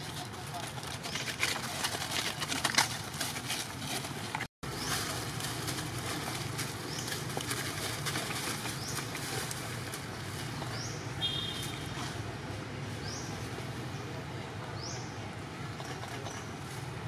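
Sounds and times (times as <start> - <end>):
rustling of dry leaves: 0.0 - 17.0.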